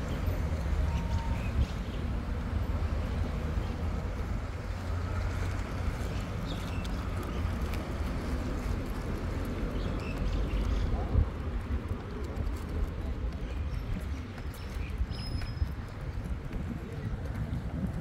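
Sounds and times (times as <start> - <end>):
wind buffeting microphone: 0.0 - 18.0
faint footsteps on asphalt: 0.2 - 18.0.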